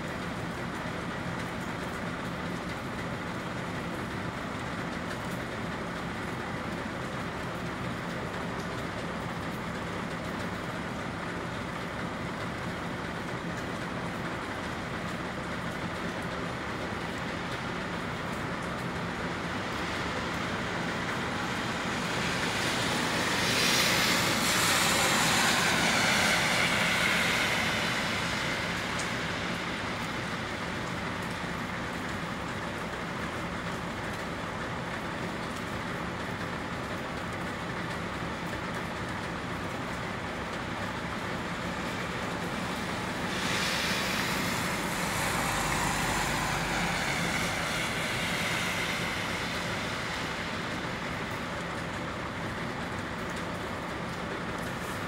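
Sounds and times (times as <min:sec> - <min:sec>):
rushing mechanical noise: 0:02.9 - 0:55.0.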